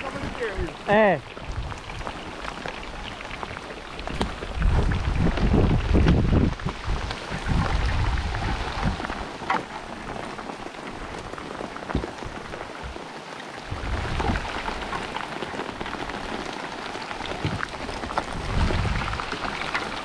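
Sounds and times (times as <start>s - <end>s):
steady hiss of rain: 0.0s - 20.0s.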